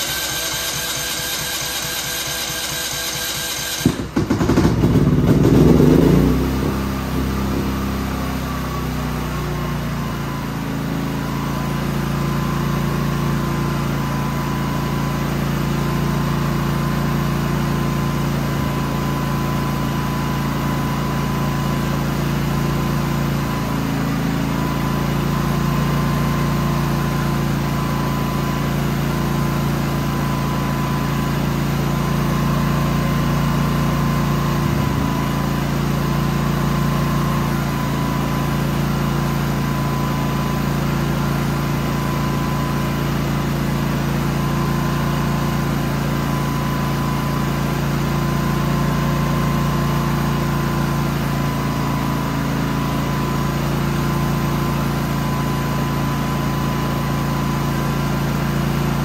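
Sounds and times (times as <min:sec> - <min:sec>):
generator engine running: 0:00.0 - 0:59.0.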